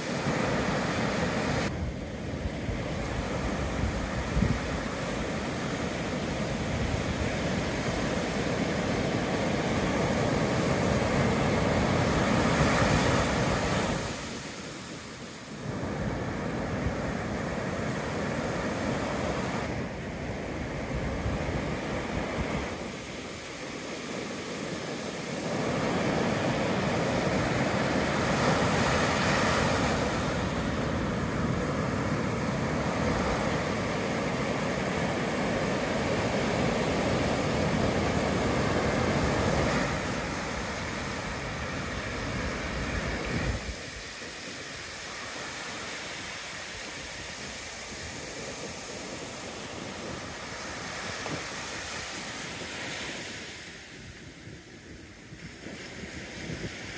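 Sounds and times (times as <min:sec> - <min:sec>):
ocean surf breaking on beach: 0:00.0 - 0:56.9.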